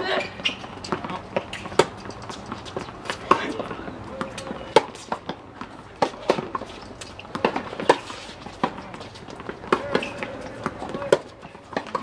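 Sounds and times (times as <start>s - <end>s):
tennis balls struck by rackets: 0.0s - 12.0s
balls bouncing on hard court: 0.1s - 12.0s.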